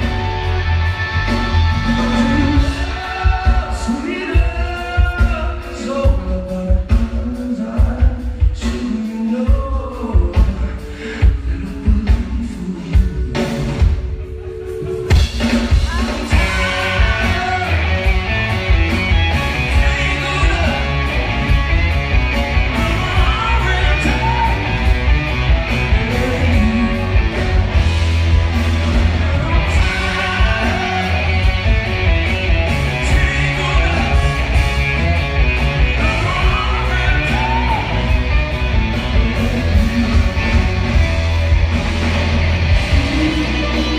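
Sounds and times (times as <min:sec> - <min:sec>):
rock band playing: 0:00.0 - 0:43.9
man singing: 0:00.8 - 0:14.1, 0:15.6 - 0:27.9, 0:28.9 - 0:41.0, 0:42.8 - 0:43.9.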